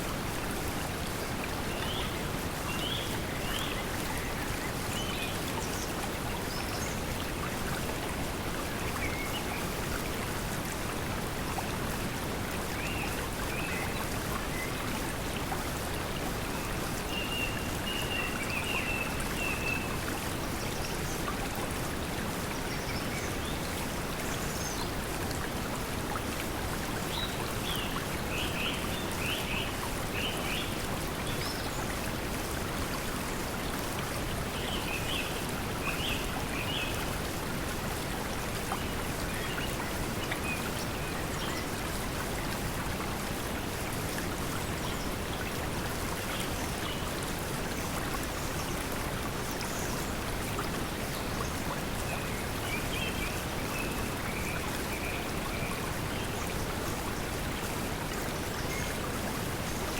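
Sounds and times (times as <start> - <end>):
flowing stream: 0.0 - 59.9.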